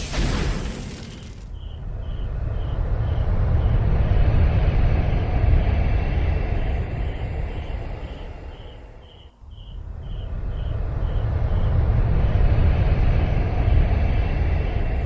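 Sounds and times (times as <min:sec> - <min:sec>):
low rumbling outdoor noise: 0:00.0 - 0:15.0.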